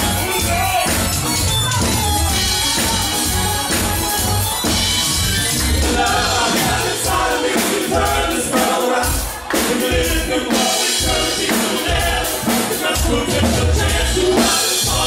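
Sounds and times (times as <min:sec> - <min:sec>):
bass: 0:00.0 - 0:15.0
drum kit beat: 0:00.0 - 0:15.0.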